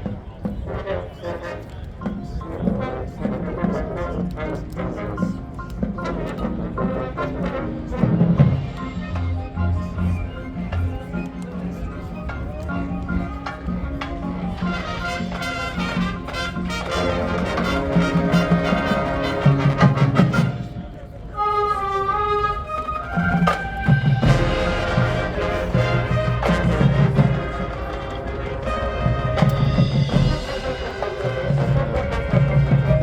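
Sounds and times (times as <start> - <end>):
percussion: 0.0 - 21.7, 22.4 - 33.0
marching band brass chords: 0.0 - 33.0.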